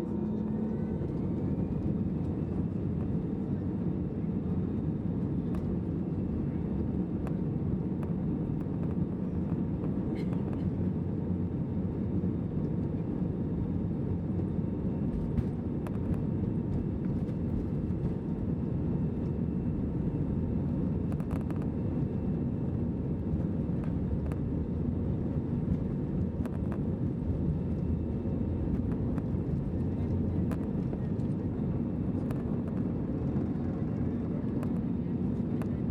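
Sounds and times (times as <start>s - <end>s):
airplane cabin rumble: 0.0s - 35.9s.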